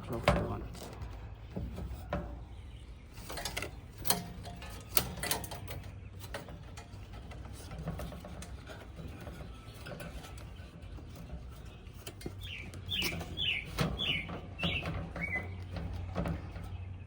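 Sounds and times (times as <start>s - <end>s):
sharp clicks and clatter: 3.1s - 17.0s.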